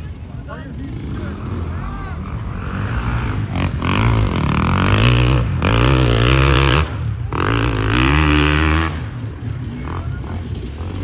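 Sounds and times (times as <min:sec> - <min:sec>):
racing engine revving: 0:00.7 - 0:11.0.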